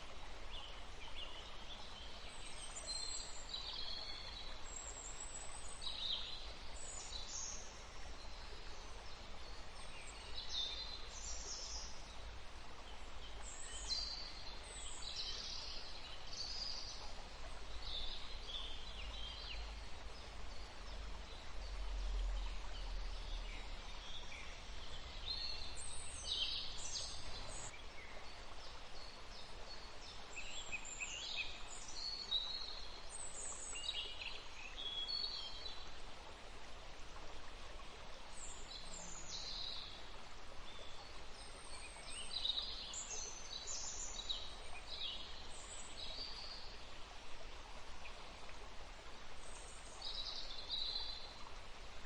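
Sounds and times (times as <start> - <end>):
songbirds chirping: 0.0 - 52.0
steady background hiss: 0.0 - 52.0.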